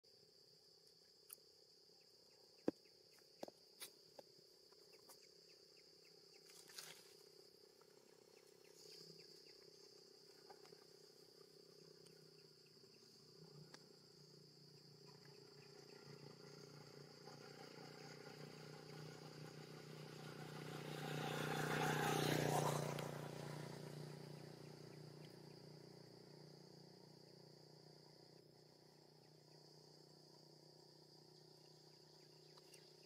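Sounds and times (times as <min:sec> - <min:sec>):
high-pitched insect drone: 0:04.9 - 0:33.0.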